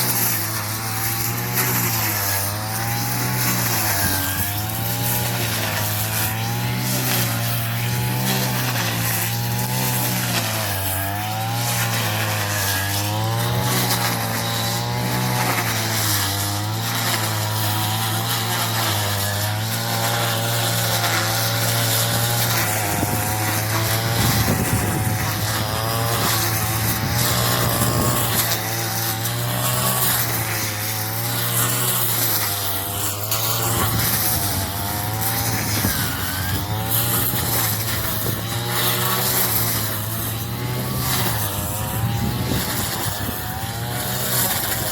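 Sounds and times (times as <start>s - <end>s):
small engine running under load: 0.0s - 44.9s.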